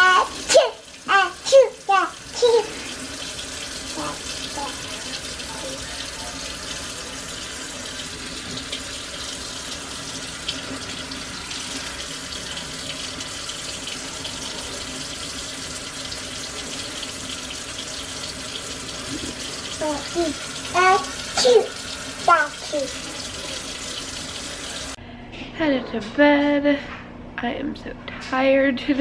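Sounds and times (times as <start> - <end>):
water running: 0.0 - 25.0.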